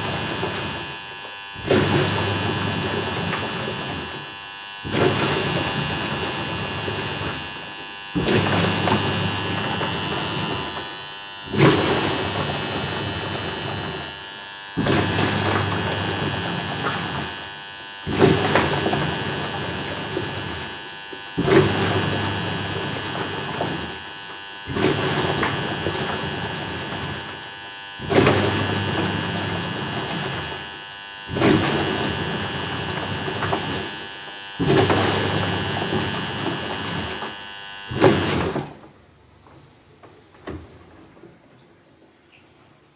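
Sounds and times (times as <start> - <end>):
washing machine grinding: 0.0 - 41.5.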